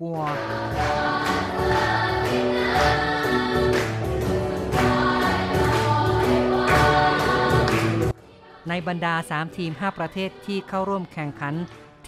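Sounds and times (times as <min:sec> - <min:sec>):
rhythmic clapping: 0:00.0 - 0:11.9
children's choir singing: 0:00.2 - 0:12.0.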